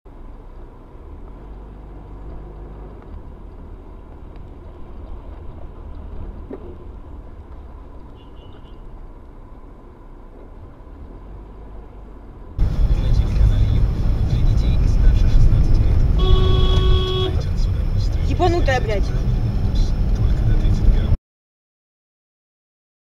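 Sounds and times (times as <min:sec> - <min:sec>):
car engine and road noise: 0:00.1 - 0:21.2.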